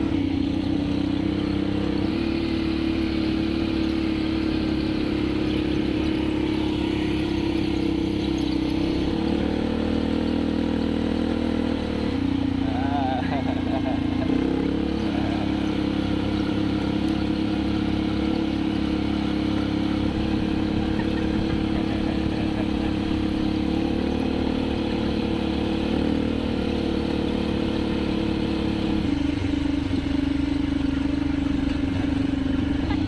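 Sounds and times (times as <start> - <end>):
quad bike engines running: 0.0 - 33.0.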